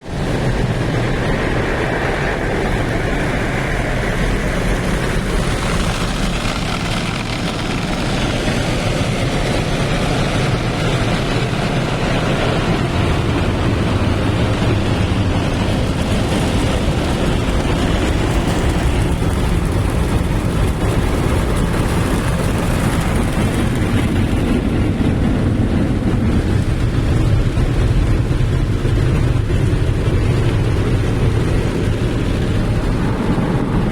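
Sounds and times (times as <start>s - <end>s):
car wash machine noise: 0.0s - 33.9s.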